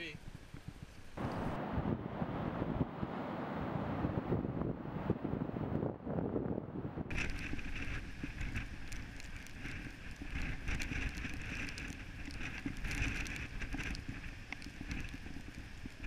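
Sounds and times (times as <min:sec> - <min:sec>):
wind buffeting microphone: 0:00.2 - 0:16.0.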